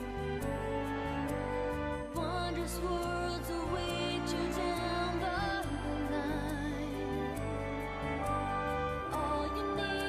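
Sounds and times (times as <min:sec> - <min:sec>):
low bass line: 0:00.0 - 0:10.0.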